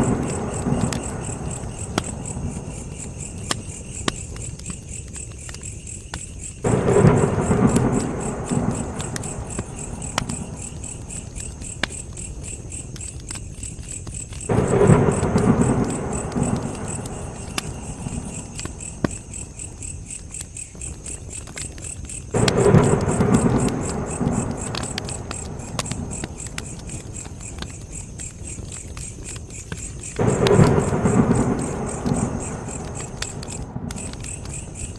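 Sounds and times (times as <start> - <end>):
thunder rumbling: 0.0 - 4.7, 6.6 - 13.0, 14.3 - 20.0, 22.1 - 34.9
crickets chirring: 0.0 - 34.9
wood fire crackling and popping: 0.0 - 34.9.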